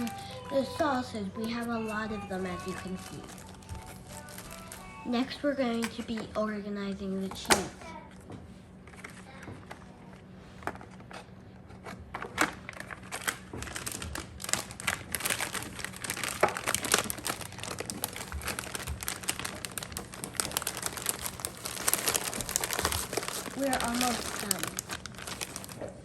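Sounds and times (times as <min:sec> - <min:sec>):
plastic packaging crinkling: 0:00.0 - 0:07.6, 0:11.8 - 0:26.0.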